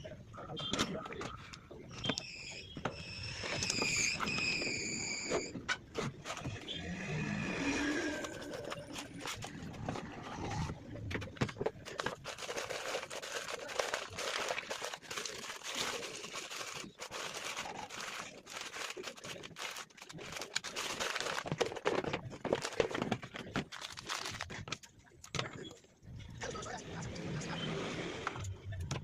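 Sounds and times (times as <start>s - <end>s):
crinkling and rustling: 0.6s - 7.0s, 7.8s - 25.9s.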